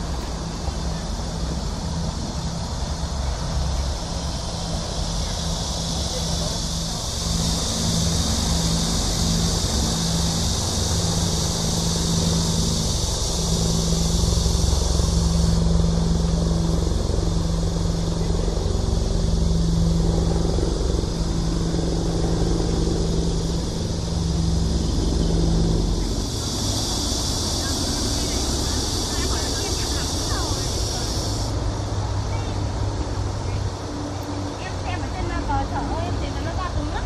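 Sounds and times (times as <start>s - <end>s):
cicadas shrilling: 0.0s - 37.0s
low machine hum: 0.0s - 37.0s.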